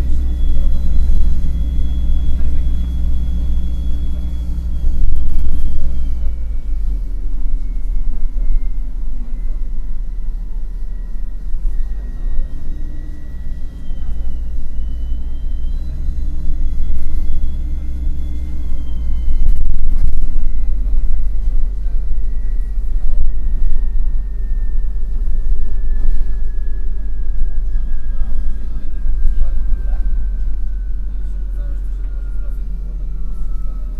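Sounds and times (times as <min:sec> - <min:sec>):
bus rumbling on road: 0:00.0 - 0:33.9
high whine: 0:00.0 - 0:33.9.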